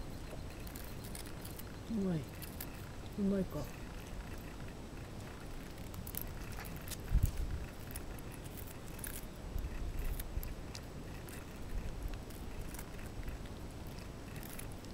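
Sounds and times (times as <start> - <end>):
puppy chewing and crunching: 0.0 - 14.9.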